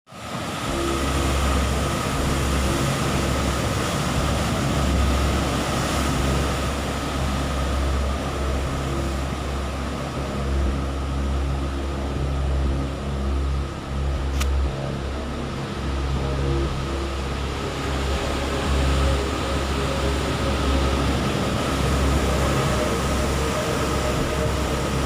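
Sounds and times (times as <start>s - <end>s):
heavy ocean surf: 0.1s - 25.0s
thin high tone: 0.4s - 25.0s.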